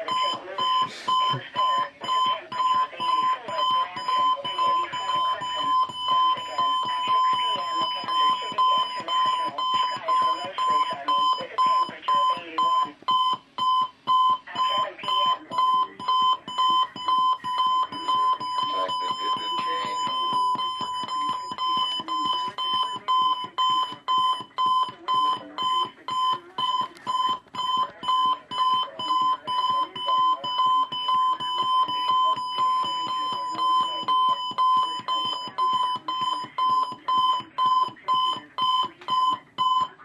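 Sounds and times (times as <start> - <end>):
alarm clock beeping: 0.0 - 40.0.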